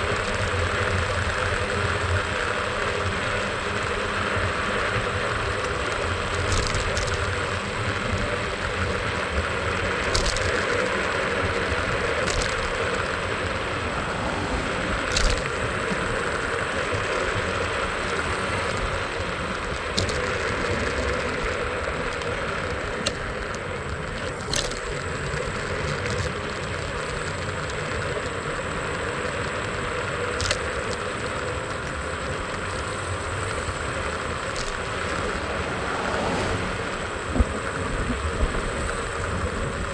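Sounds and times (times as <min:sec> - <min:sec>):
street traffic noise: 0:00.0 - 0:39.9.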